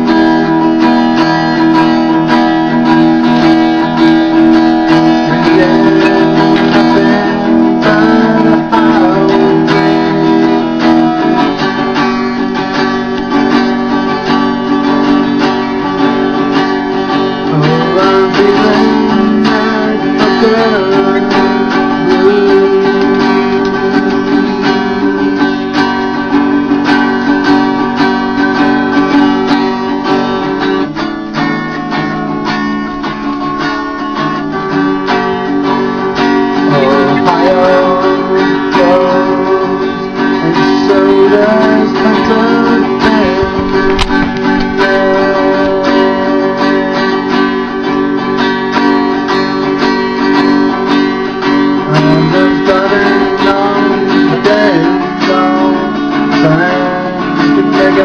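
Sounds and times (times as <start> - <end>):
guitar strummed blues rhythm: 0.0 - 58.0.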